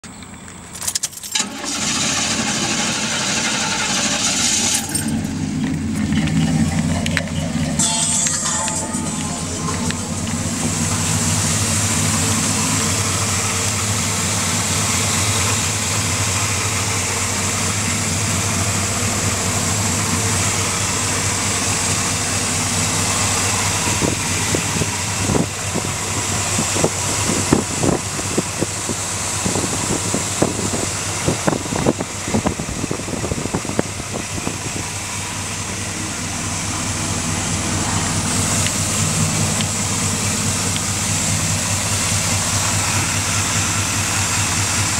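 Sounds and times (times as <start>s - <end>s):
truck engine idling: 0.0s - 44.9s.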